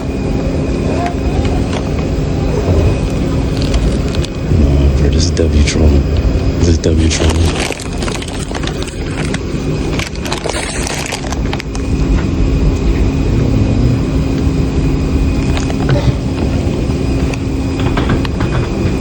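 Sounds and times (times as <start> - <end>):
constant hum: 0.0 - 19.0
vehicle cabin rumble: 0.0 - 19.0.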